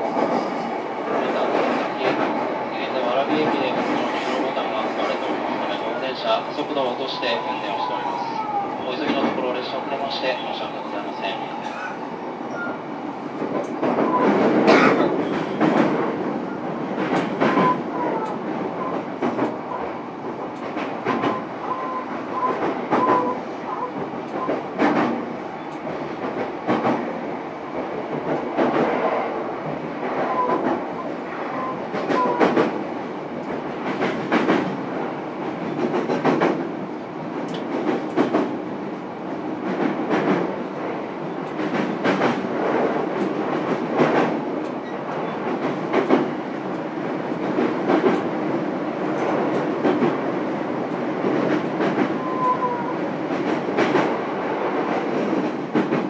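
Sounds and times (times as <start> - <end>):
electric train rumbling: 0.0 - 56.0.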